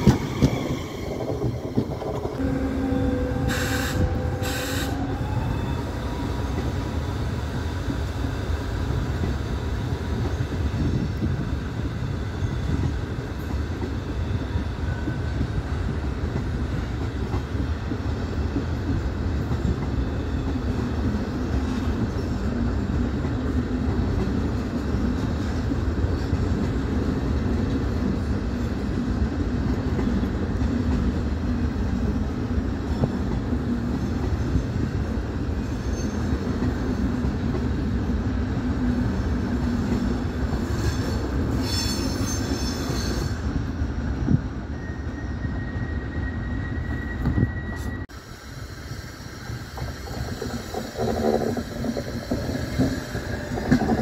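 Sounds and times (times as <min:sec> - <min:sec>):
train rumbling with wheel noise: 0:00.0 - 0:54.0.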